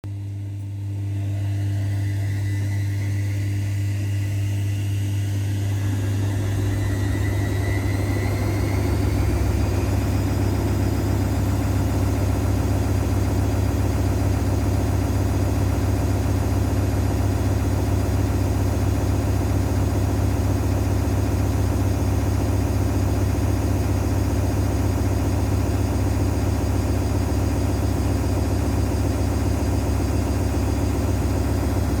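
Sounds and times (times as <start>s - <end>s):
washing machine spinning: 0.4s - 32.0s.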